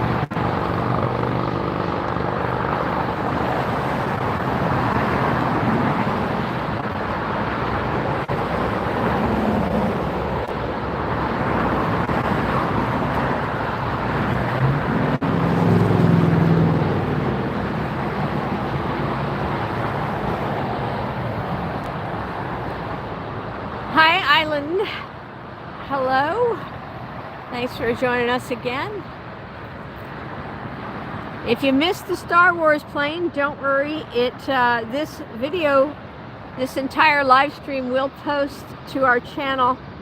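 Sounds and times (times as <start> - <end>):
low engine hum: 0.0 - 34.7
vehicle and engine roar: 0.0 - 40.0.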